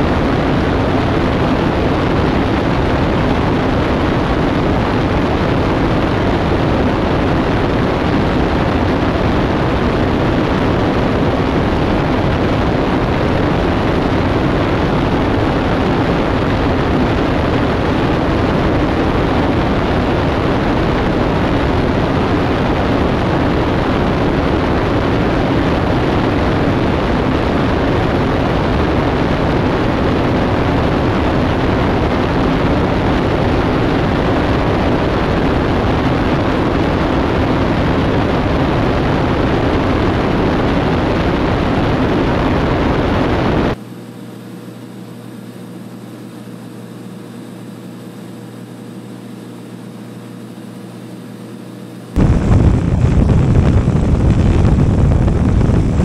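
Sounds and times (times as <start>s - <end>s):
rush of airflow: 0.0s - 43.8s, 52.0s - 56.0s
aircraft engine and propeller droning: 0.0s - 44.2s, 51.6s - 56.0s.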